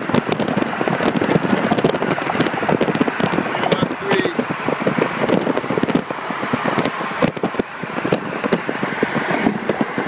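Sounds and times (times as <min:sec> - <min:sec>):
car engine running: 0:00.0 - 0:10.0
wind buffeting microphone: 0:00.0 - 0:10.0.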